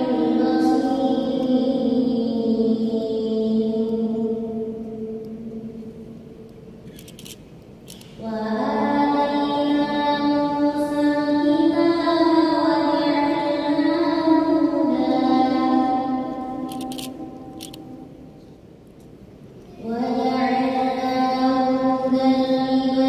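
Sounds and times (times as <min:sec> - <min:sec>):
woman reciting melodically into microphone: 0:00.0 - 0:06.1, 0:08.2 - 0:18.0, 0:19.7 - 0:23.0.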